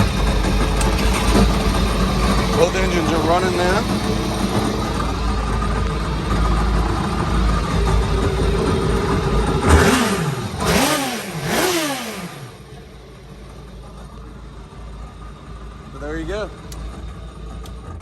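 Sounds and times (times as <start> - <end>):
jet boat engines revving: 0.0 - 18.0.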